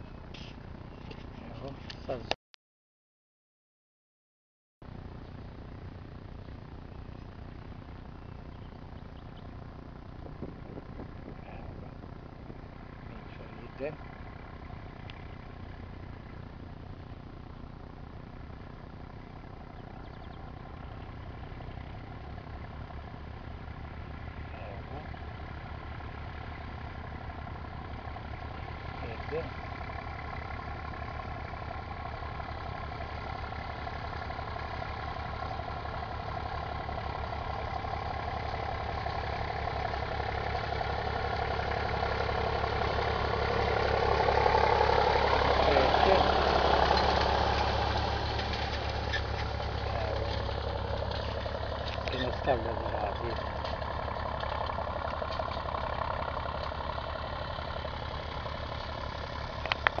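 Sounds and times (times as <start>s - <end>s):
tractor diesel engine running: 0.0s - 2.4s, 4.8s - 60.0s.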